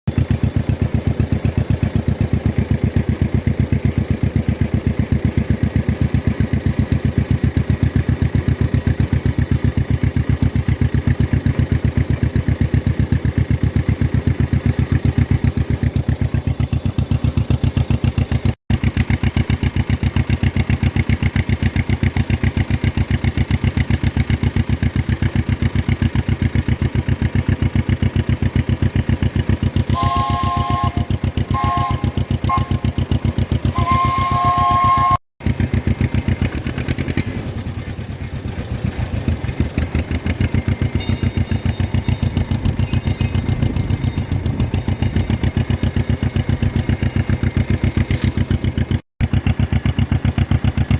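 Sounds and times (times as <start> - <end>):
tractor engine running: 0.1 - 50.9.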